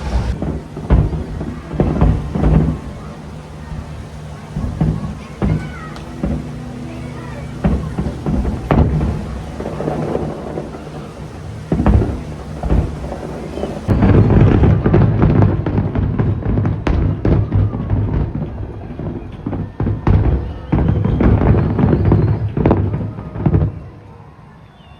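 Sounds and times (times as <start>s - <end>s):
fireworks booming: 0.0s - 24.2s.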